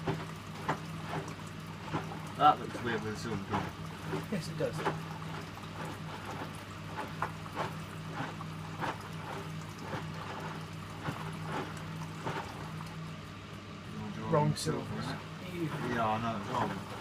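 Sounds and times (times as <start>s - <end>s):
sloshing and thuds of wet laundry: 0.0s - 13.2s, 14.8s - 17.0s
washing machine motor hum: 0.0s - 17.0s.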